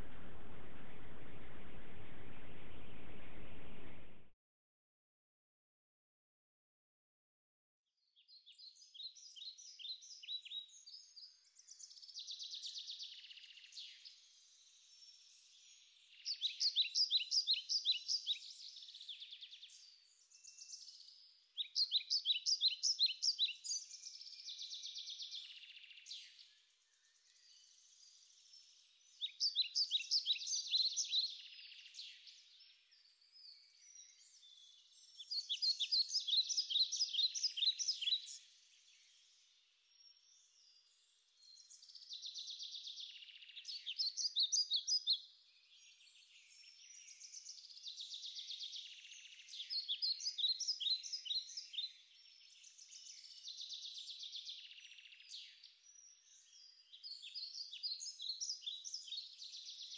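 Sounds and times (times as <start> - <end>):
songbird singing high chirps: 8.2 - 59.9.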